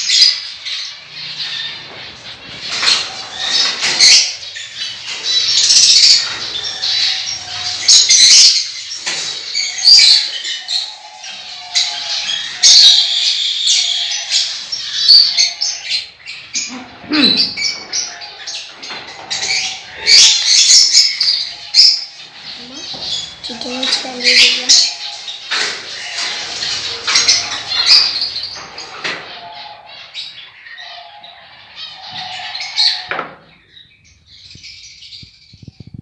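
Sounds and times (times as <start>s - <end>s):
parrots chirping and squawking: 0.0s - 35.6s.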